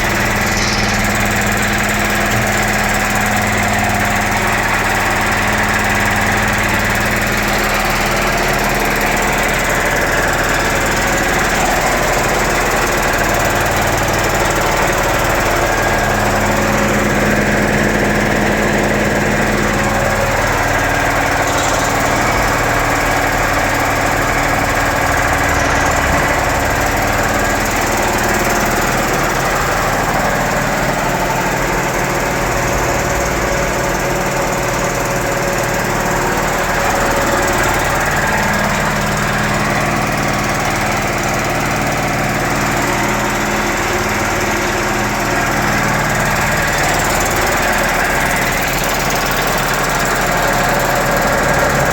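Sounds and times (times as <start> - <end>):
air compressor running: 0.0 - 51.9.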